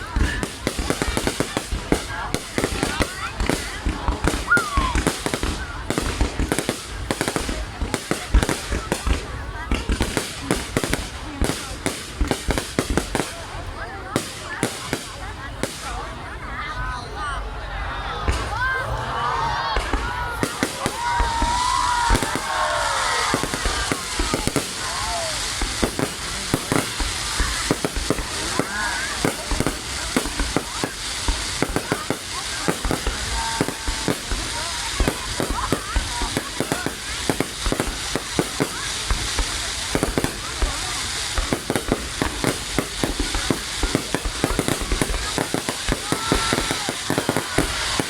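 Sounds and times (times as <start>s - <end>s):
crackling hiss: 0.0s - 16.1s, 19.9s - 48.0s
fireworks popping and banging: 0.0s - 16.4s, 19.7s - 48.0s.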